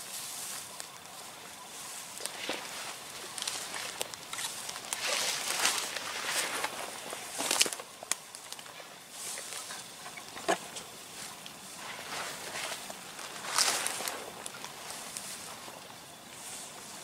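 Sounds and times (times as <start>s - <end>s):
footsteps through vegetation: 0.0s - 17.0s.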